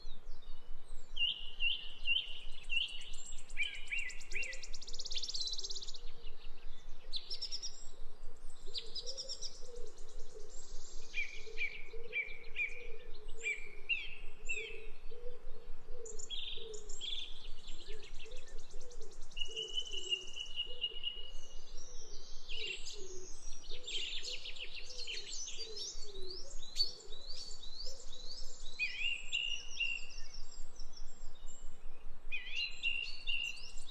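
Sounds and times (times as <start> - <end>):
birds chirping and singing: 0.1 - 15.4, 16.0 - 33.9.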